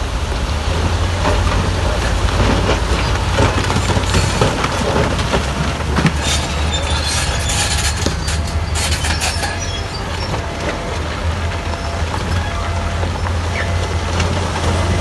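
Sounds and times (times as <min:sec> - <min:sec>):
bulldozer diesel engine rumbling: 0:00.0 - 0:15.0
steel tracks clanking and scraping: 0:00.0 - 0:15.0.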